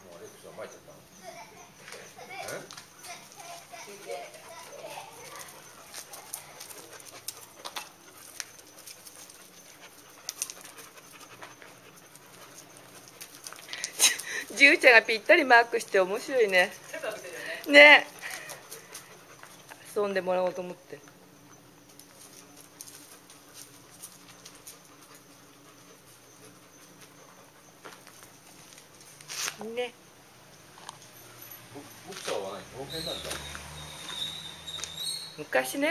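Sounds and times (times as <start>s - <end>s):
dogs panting: 0.0s - 29.2s.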